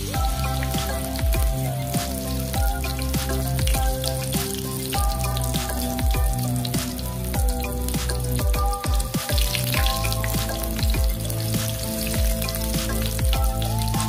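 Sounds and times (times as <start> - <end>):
background music with beat: 0.0 - 14.0
eggplant sizzling in hot oil: 0.0 - 14.0.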